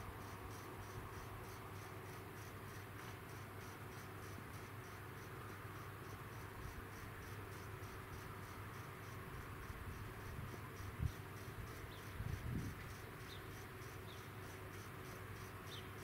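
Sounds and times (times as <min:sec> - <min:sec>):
faint low background hum: 0:00.0 - 0:16.0
insects chirping: 0:00.0 - 0:16.0.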